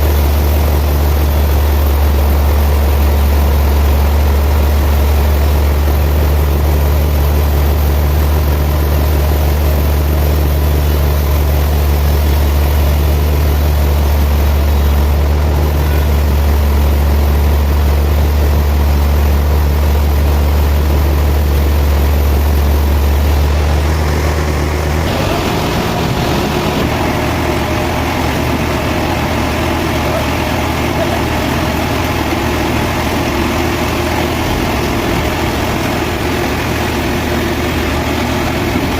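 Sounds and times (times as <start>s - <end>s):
rough mechanical noise: 0.0s - 38.9s
sawmill machinery humming: 0.0s - 38.9s.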